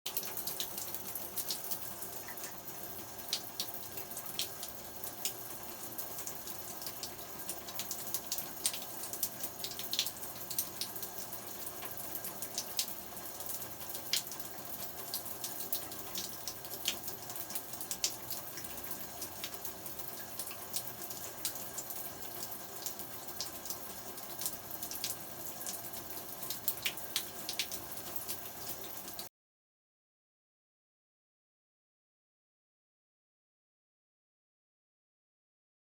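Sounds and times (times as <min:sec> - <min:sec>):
shower water running: 0:00.1 - 0:29.3.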